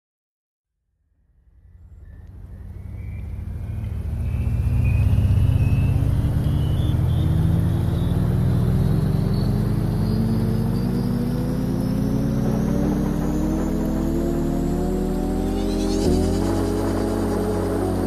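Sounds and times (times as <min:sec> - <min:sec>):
car engine whine: 0:01.1 - 0:18.0
road noise inside car: 0:01.3 - 0:18.0.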